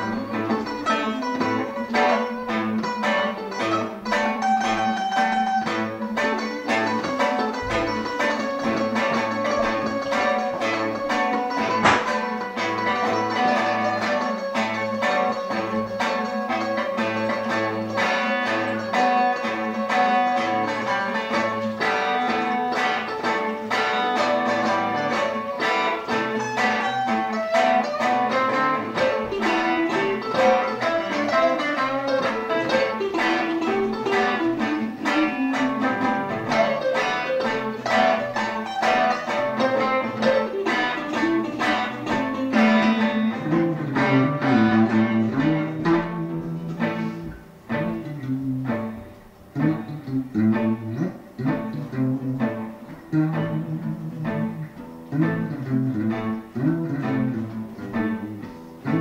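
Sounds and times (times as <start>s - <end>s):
rock and roll guitar jam: 0.0s - 59.0s.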